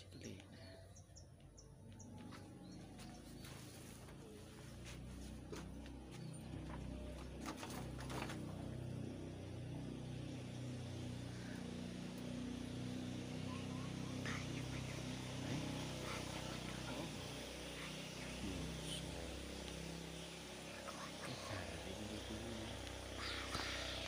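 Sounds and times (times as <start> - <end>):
honeybees buzzing: 2.0 - 24.0.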